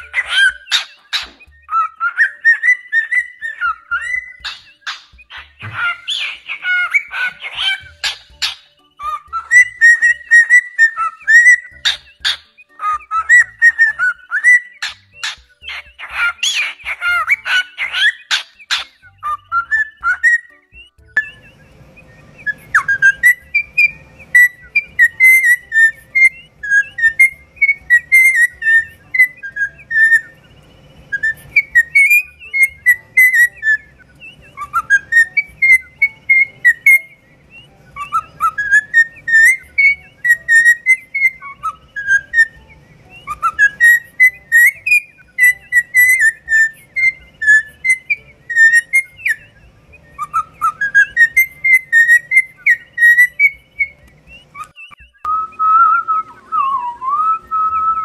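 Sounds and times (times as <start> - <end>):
cockatiel whistling: 0.0 - 58.0.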